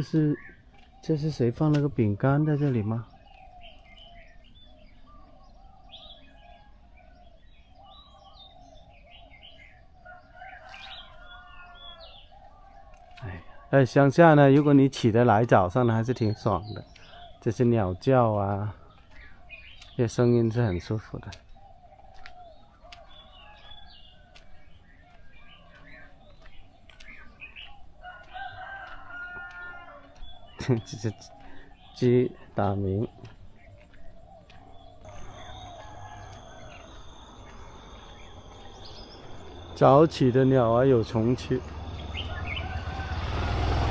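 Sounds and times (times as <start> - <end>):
birds chirping and singing: 0.0 - 43.9
continuous wavering birdsong: 0.0 - 43.9.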